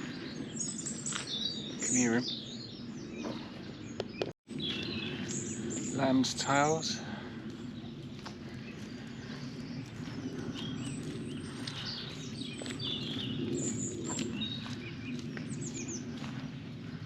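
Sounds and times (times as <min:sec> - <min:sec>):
robin singing: 0:00.0 - 0:08.0, 0:08.6 - 0:16.1
low outdoor rumble: 0:01.6 - 0:17.0.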